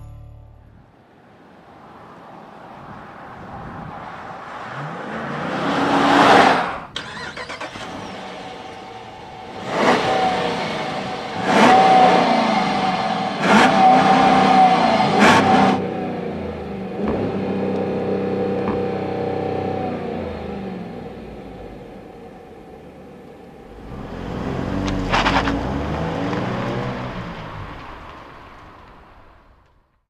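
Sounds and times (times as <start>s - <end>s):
car engine revving and idling: 2.9s - 29.4s.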